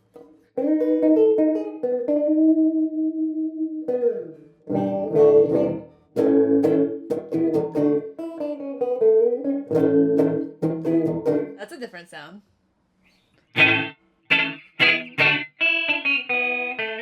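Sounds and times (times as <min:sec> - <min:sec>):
electric guitar chords: 0:00.6 - 0:11.6, 0:13.5 - 0:17.0.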